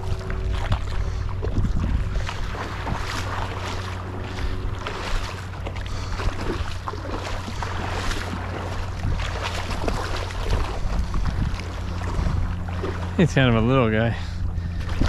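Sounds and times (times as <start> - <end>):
small waves lapping: 0.0 - 15.0
wind buffeting microphone: 0.0 - 15.0.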